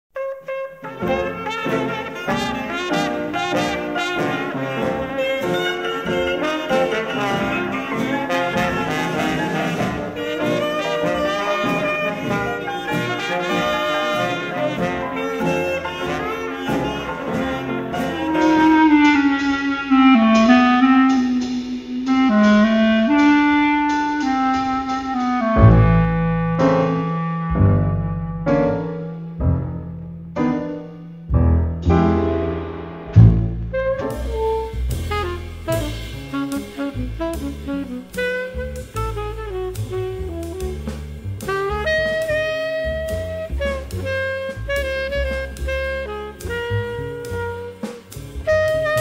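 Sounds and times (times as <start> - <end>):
jazz music with horns: 0.2 - 49.0.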